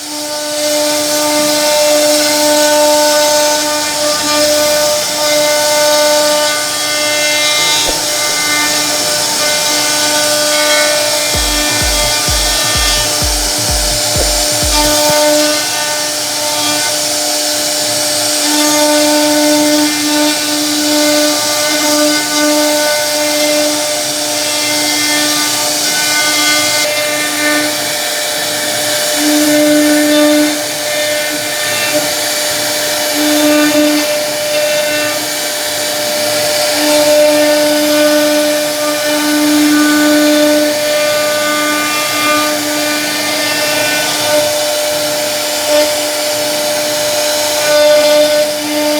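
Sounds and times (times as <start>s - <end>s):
router spindle whine: 0.0s - 48.9s.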